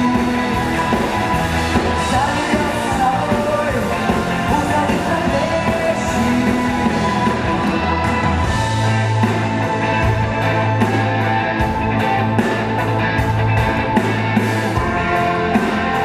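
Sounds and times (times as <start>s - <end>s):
drum kit: 0.0s - 16.0s
electric bass guitar: 0.0s - 16.0s.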